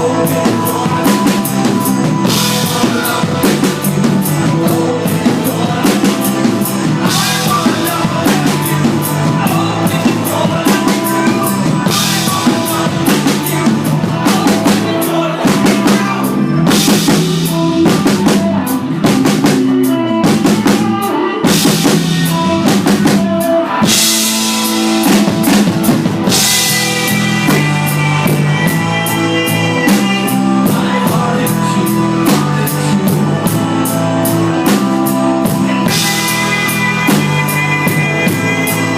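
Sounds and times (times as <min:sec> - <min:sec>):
drum kit: 0:00.0 - 0:38.9
live rock band playing: 0:00.0 - 0:38.9.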